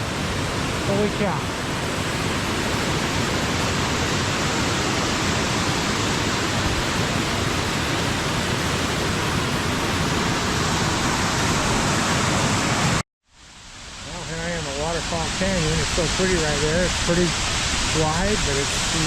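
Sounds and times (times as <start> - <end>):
waterfall rushing: 0.0 - 13.0, 13.8 - 19.0.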